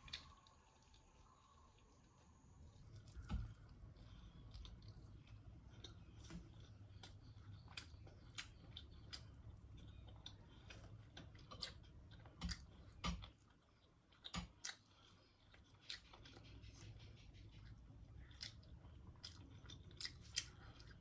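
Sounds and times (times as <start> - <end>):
low steady hum: 0.0 - 21.0
clicks and taps of eating: 3.0 - 21.0.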